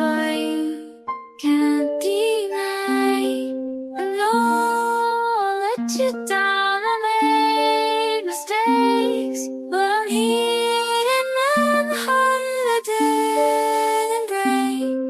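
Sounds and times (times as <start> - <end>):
gentle melody with plucked accompaniment: 0.0 - 15.0.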